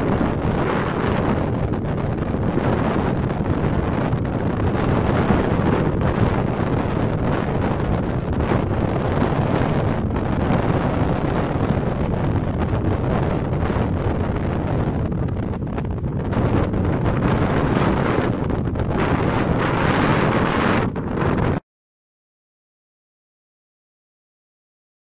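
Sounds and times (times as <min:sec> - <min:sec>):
wind buffeting microphone: 0:00.0 - 0:21.6.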